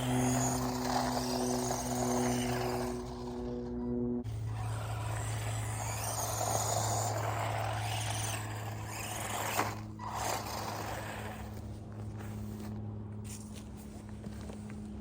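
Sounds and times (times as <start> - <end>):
rc car motor and tyres: 0.0 - 15.0
steady low hum: 0.0 - 15.0.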